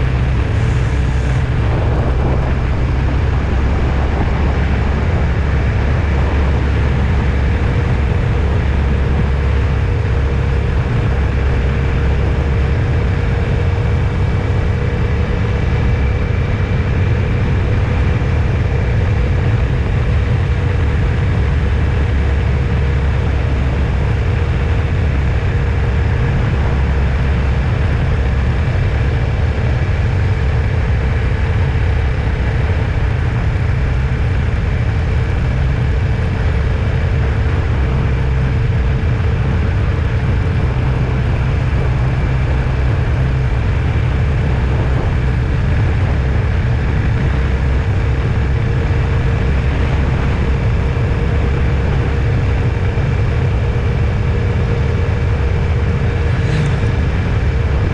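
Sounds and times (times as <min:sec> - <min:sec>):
faint whines: 0:00.0 - 0:57.9
vehicle engine and road noise: 0:00.0 - 0:57.9.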